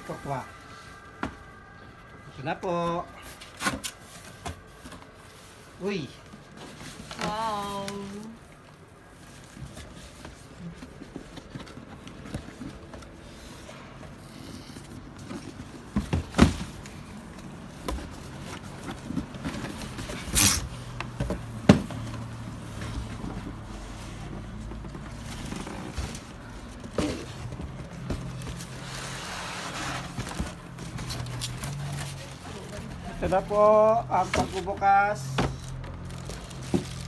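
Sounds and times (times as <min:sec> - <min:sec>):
packaging scraping and rustling: 0:03.0 - 0:37.0.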